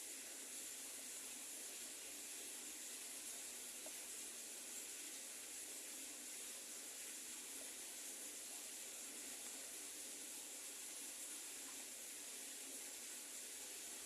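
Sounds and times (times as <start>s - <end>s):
faint microphone hiss: 0.0s - 14.0s.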